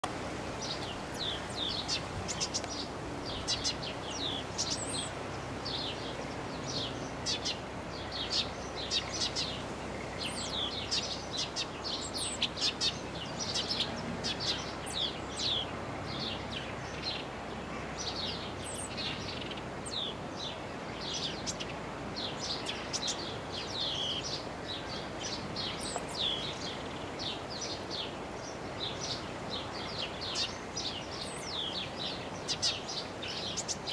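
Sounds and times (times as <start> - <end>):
sparrow chirping: 0.6 - 33.9.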